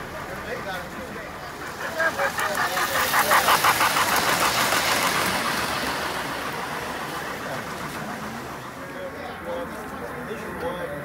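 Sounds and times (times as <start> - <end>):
model steam train running past: 0.0 - 11.0.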